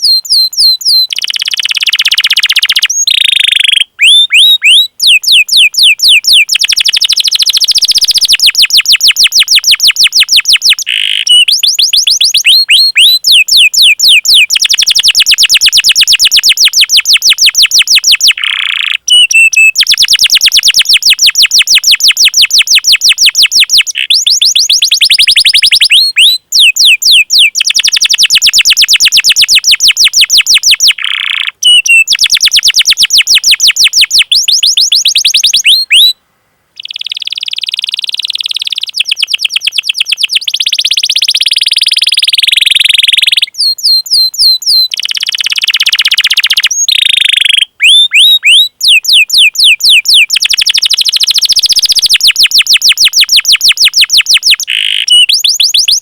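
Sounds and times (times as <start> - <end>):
canary singing trills: 0.0 - 36.2, 36.8 - 56.0.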